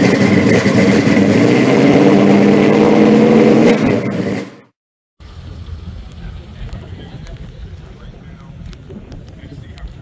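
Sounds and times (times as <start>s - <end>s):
loud engine running: 0.0s - 8.6s.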